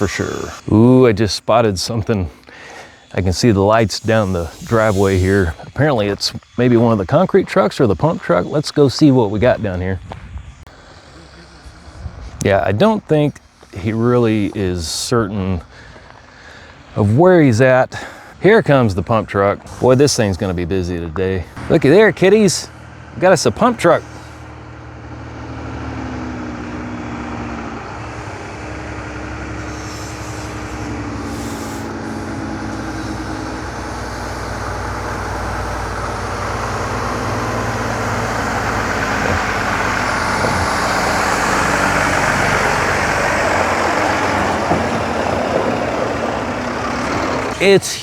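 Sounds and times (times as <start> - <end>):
truck diesel engine approaching: 0.0 - 48.0.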